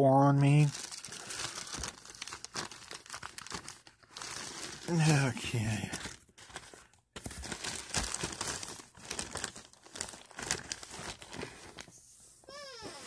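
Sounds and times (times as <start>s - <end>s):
plastic bag crinkling: 0.5s - 11.9s.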